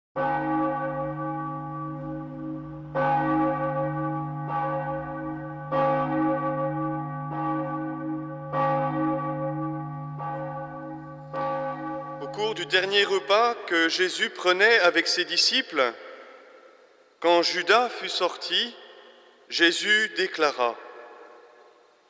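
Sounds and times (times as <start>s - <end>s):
church bell tolling: 0.2s - 21.9s.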